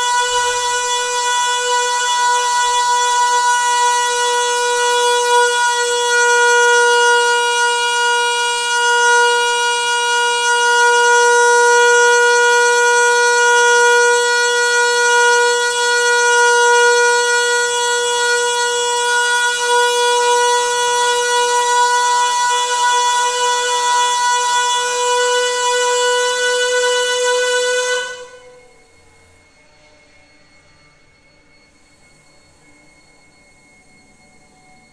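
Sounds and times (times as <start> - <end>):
water pipe droning tone: 0.0 - 34.9.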